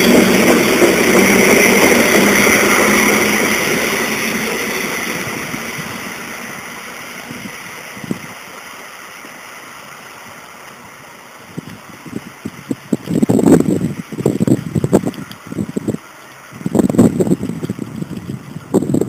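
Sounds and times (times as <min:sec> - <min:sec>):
commuter train pulling away: 0:00.0 - 0:17.4.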